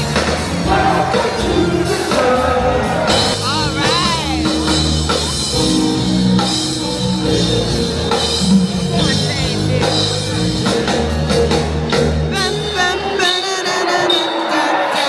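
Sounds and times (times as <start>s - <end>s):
drums: 0.0s - 15.0s
guitar: 0.0s - 15.0s
soul music with singing: 0.0s - 15.0s.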